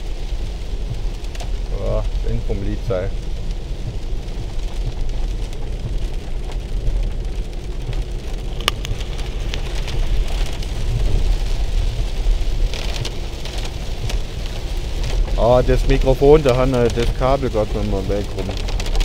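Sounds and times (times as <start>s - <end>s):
car driving rumble: 0.0s - 19.0s
rain on car roof: 0.0s - 19.0s.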